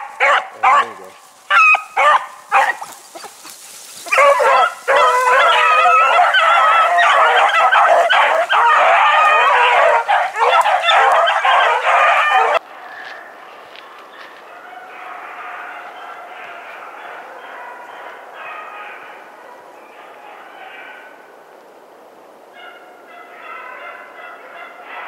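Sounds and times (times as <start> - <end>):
hounds baying: 0.0 - 21.2, 22.6 - 25.0.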